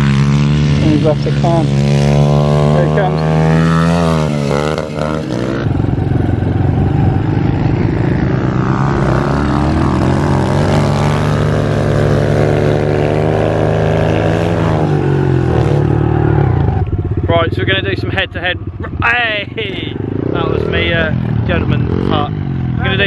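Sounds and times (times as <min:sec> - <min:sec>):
minibike engine at high revs: 0:00.0 - 0:23.0.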